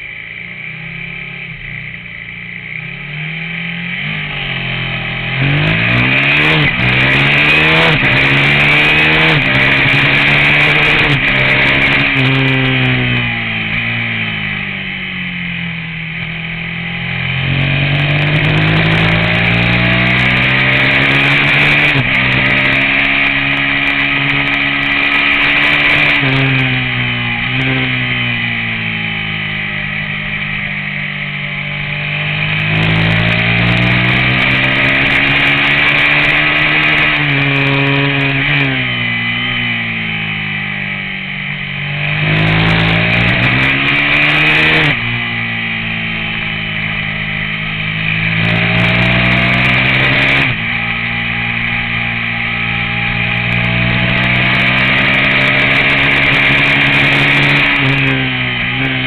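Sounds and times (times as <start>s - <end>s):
race motorcycle engine: 0.0s - 59.0s.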